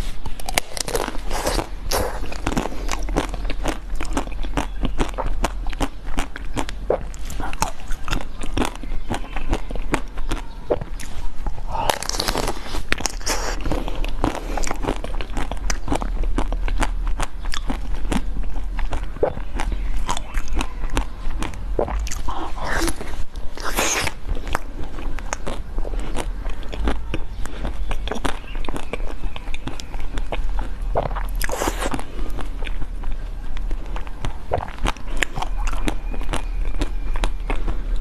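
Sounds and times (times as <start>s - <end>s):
crunchy chewing: 0.0s - 38.0s.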